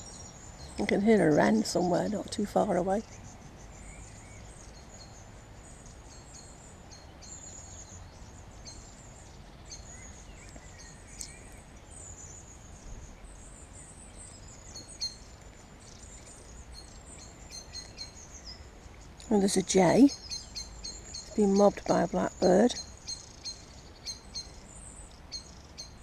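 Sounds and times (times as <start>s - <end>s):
low steady background rumble: 0.0s - 26.0s
wren singing trills: 0.0s - 26.0s.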